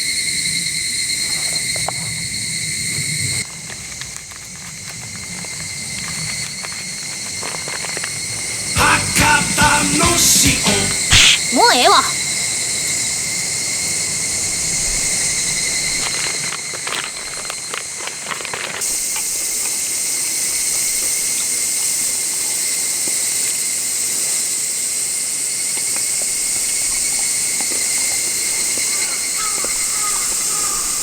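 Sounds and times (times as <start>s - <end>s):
insects chirring: 0.0s - 31.0s
outdoor ambience hiss: 0.0s - 31.0s.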